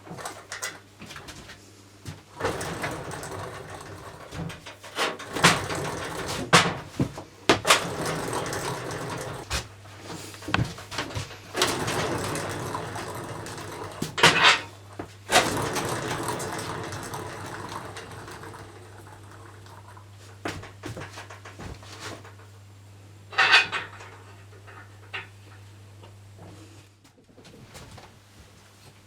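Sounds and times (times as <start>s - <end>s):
knocks and clatter of handling: 0.0s - 22.7s, 23.3s - 26.2s.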